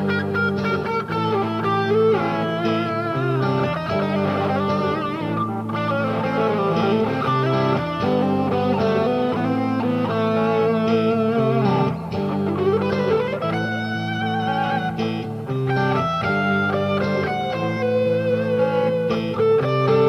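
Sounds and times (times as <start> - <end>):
electric guitar chords: 0.0 - 20.0.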